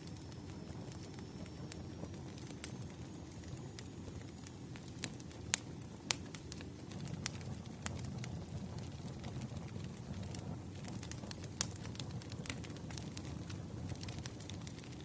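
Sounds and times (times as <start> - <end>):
campfire crackling: 0.0 - 15.0
sharp pops of fire: 0.0 - 15.0.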